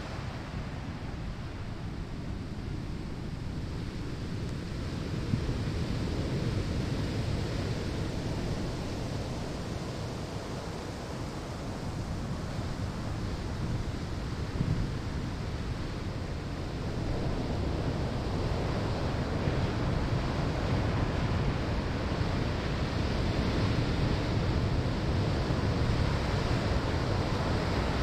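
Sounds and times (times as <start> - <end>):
ocean waves breaking on sand: 0.0 - 28.0.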